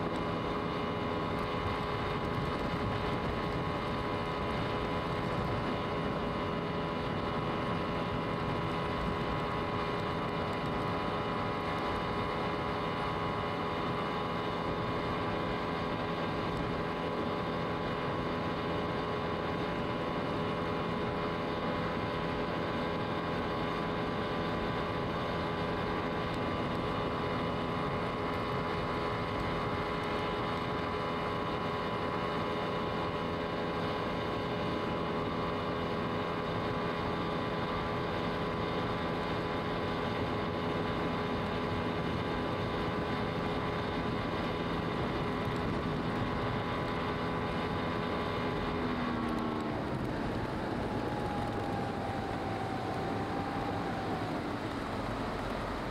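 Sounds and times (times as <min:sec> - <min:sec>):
motorboat engine running: 0:00.0 - 0:55.9.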